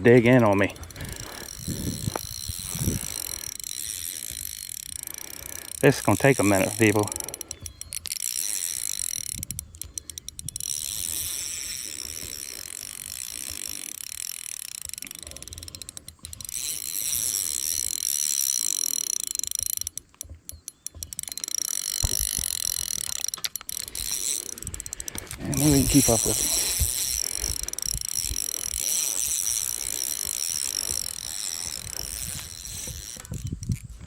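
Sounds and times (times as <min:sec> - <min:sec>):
fishing reel ratcheting: 0:00.0 - 0:34.0.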